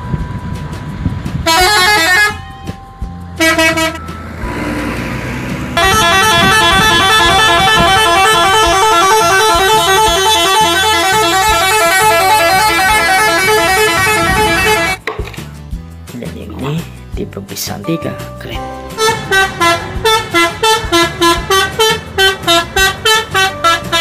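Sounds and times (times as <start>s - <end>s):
musical bus horns playing tunes: 0.0s - 15.0s, 18.6s - 24.0s.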